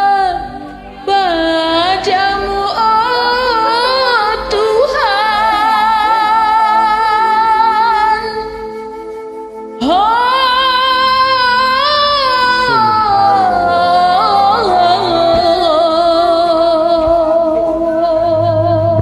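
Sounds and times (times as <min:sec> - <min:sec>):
karaoke devotional song melody: 0:00.0 - 0:19.0.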